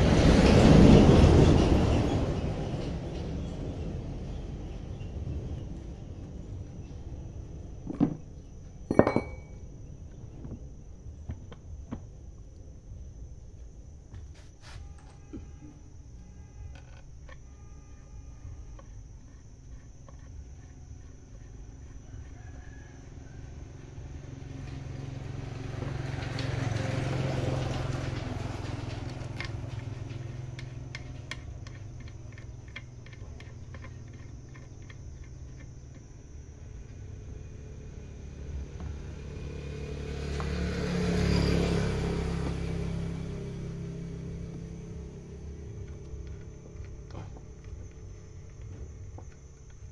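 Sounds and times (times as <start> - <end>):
vehicles passing by: 0.0 - 14.8, 21.8 - 34.7, 35.9 - 49.9.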